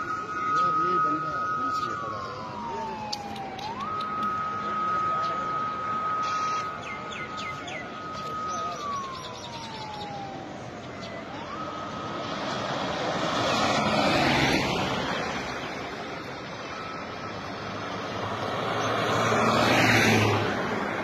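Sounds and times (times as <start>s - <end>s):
siren tone: 0.0s - 21.0s
vehicles driving past: 0.0s - 21.0s.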